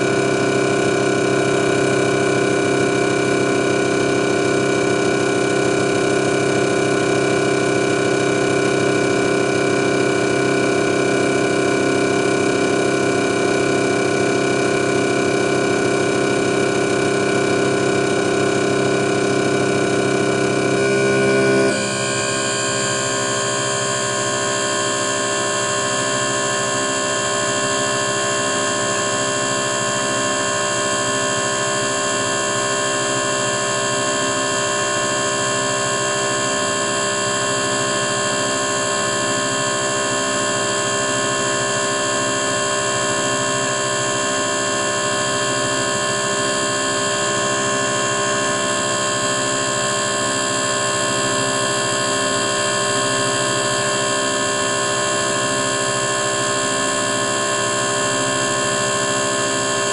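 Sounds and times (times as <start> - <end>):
test bench mechanical hum and whine: 0.0 - 59.9.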